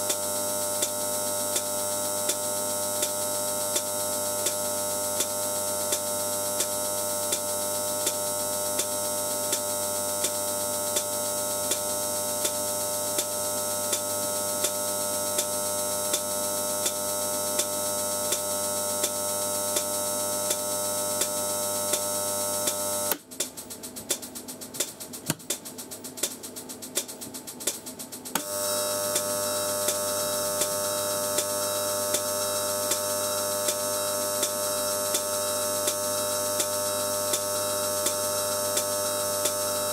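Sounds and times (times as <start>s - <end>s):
electrical buzz with ticking: 0.0s - 39.9s.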